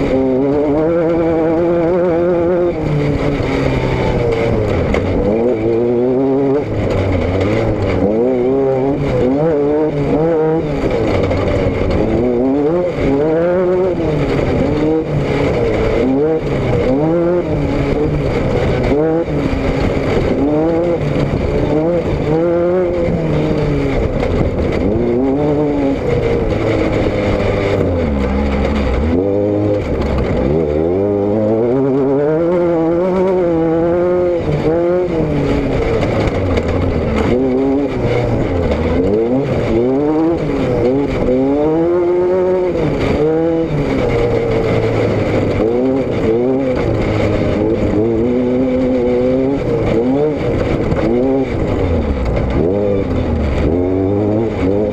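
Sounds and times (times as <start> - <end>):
vehicle engine and exhaust revving: 0.0 - 54.9.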